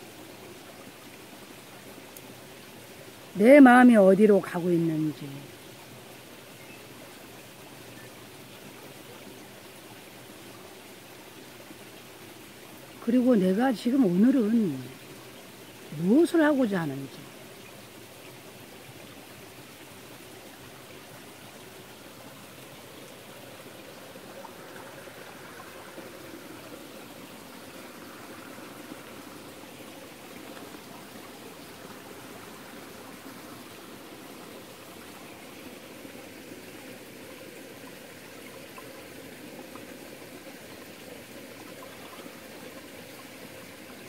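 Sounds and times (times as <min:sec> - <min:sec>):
stream flowing over rocks: 0:00.0 - 0:44.0.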